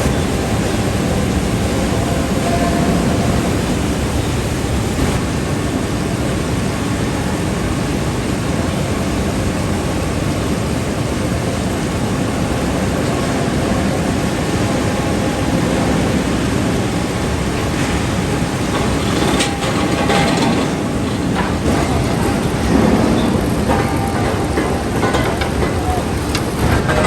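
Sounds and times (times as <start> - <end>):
heavy machinery rumble and hiss: 0.0 - 27.0.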